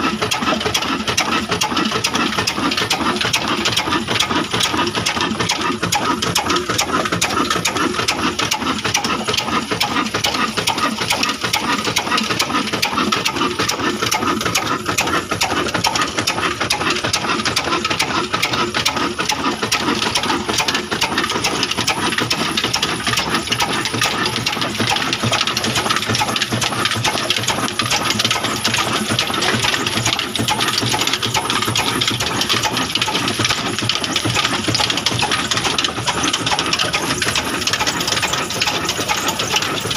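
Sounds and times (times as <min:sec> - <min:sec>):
stationary diesel engine clatter: 0:00.0 - 0:39.9.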